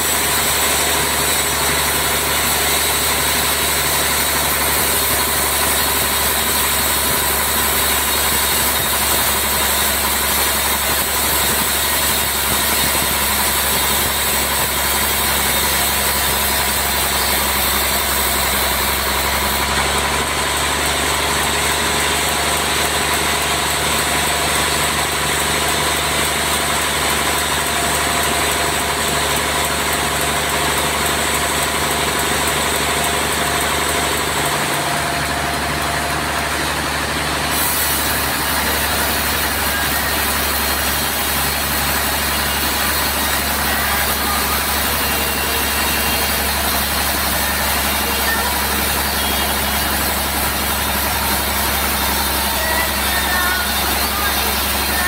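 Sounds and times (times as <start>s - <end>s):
band saw sawing log: 0.0s - 55.0s
machine hum: 0.0s - 55.0s.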